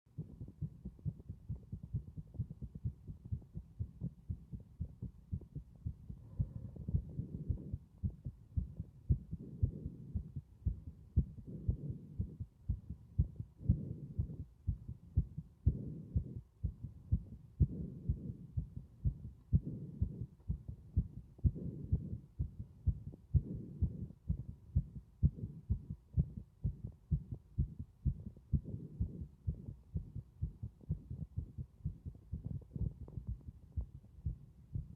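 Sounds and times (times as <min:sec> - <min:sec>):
heartbeat: 0:00.1 - 0:34.9.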